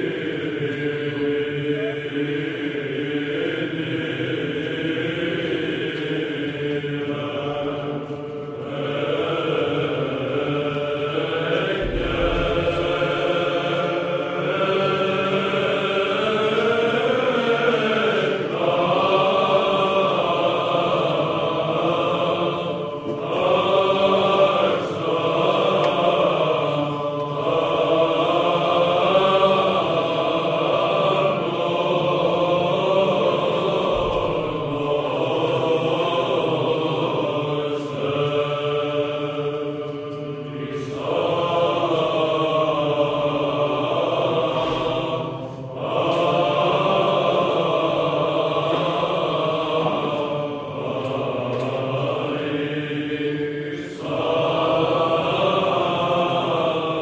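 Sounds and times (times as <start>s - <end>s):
choir chanting: 0.0s - 57.0s.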